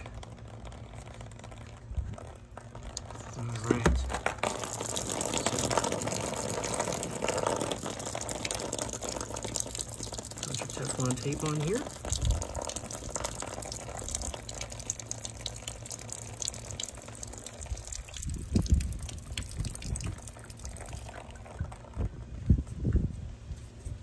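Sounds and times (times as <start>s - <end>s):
water drips: 0.0s - 22.1s
water trickling from pipe: 0.0s - 22.4s.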